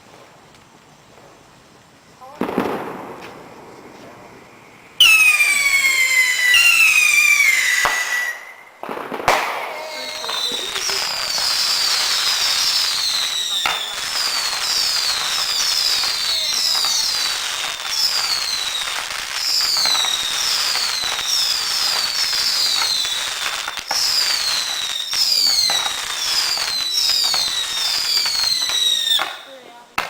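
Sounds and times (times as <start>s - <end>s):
firework crackling: 0.0s - 30.0s
whistling firework shots: 2.2s - 30.0s
sharp firework bangs: 2.3s - 30.0s.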